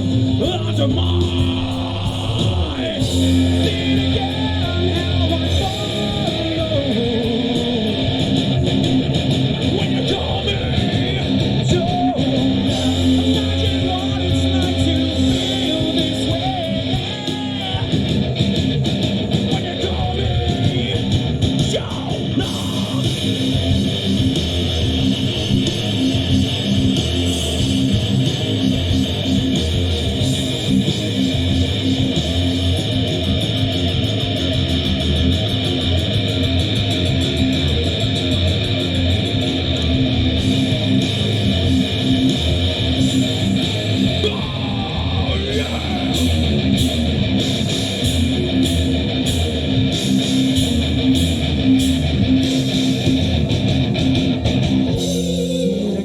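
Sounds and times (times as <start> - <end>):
electric guitar strumming: 0.0 - 56.0
live rock band playing: 0.0 - 56.0.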